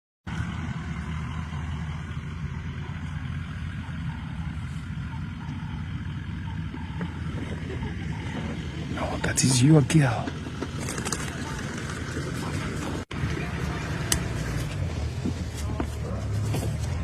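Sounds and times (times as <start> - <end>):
vehicle engine idling: 0.3 - 17.0.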